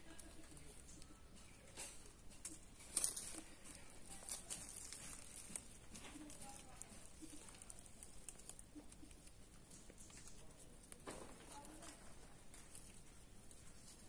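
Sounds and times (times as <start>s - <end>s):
dry leaves rustling: 1.8s - 14.0s.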